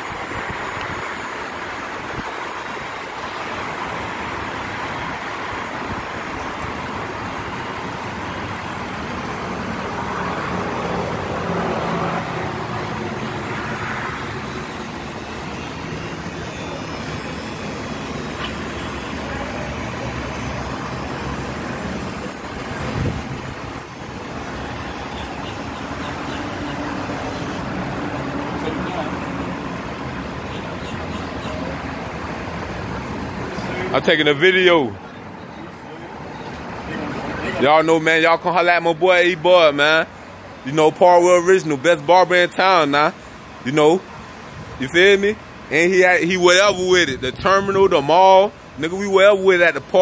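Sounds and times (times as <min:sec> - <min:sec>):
traffic noise: 0:00.0 - 0:50.0.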